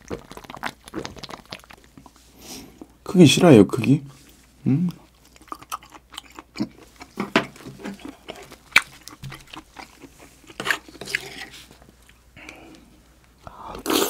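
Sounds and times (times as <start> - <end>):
wet chewing and crunching: 0.0 - 2.9, 4.2 - 12.8.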